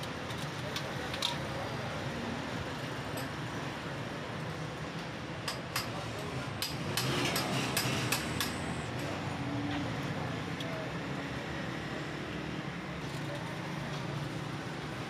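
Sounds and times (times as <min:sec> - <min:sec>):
street and workshop background noise: 0:00.0 - 0:15.0.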